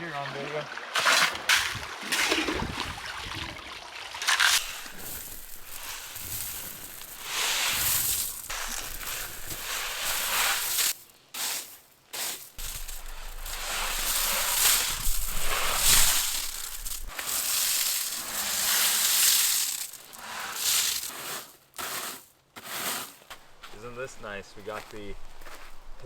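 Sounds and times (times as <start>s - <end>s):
gravel crunching and scraping: 4.2s - 26.0s.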